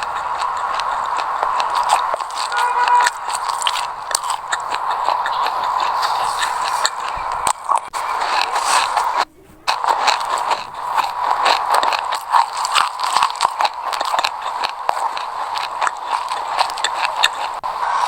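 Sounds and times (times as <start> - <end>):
chewing crunchy seeds: 0.0 - 18.0.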